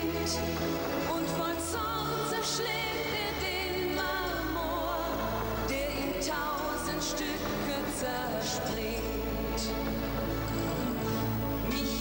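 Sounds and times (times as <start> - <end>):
woman singing: 0.0 - 10.0, 11.6 - 12.0
band backing music: 0.0 - 12.0.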